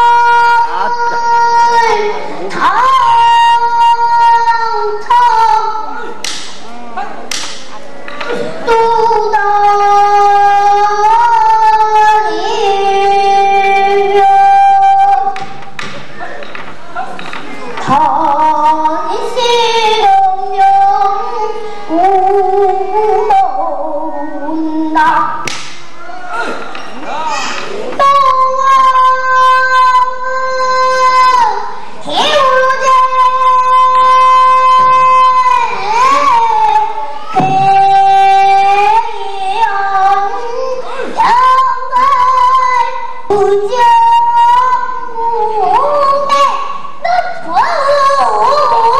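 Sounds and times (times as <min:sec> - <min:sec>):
girl singing long held notes: 0:00.0 - 0:06.2, 0:08.3 - 0:15.6, 0:17.8 - 0:25.5, 0:27.8 - 0:48.9.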